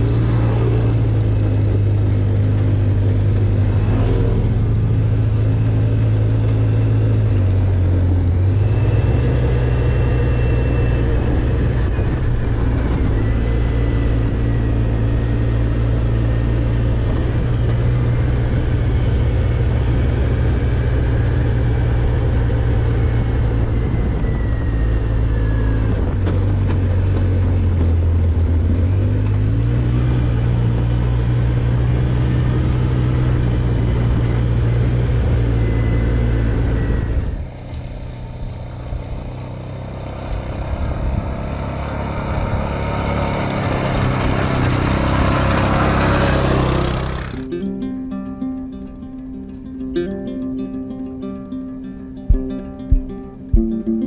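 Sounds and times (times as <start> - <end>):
quad bike engine running: 0.0 - 47.5.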